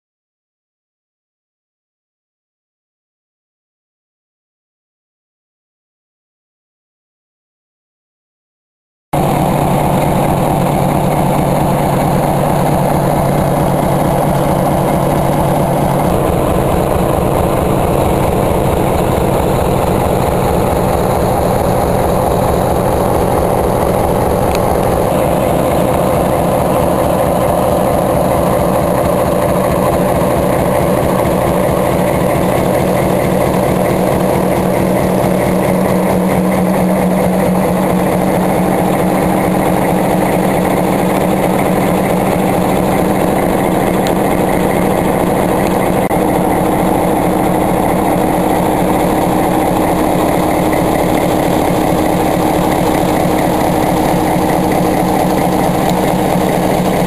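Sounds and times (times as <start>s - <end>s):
diesel locomotive engine idling: 9.2s - 57.0s.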